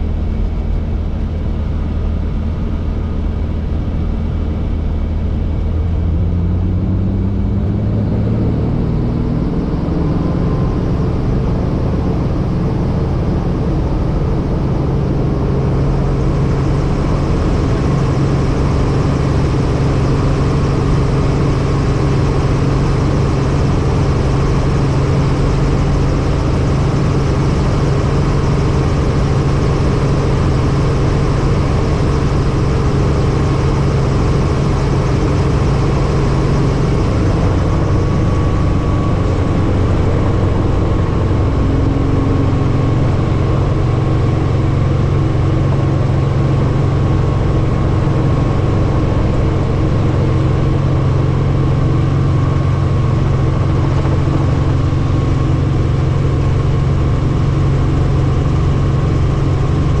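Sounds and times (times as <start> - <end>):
helicopter rotors and engine drone: 0.0 - 60.0.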